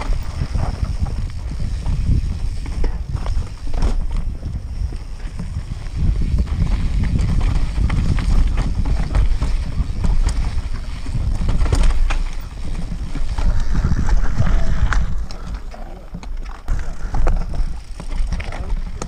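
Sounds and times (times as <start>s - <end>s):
bike rattling over stones: 0.0s - 19.0s
wind rumble on microphone: 0.0s - 19.0s.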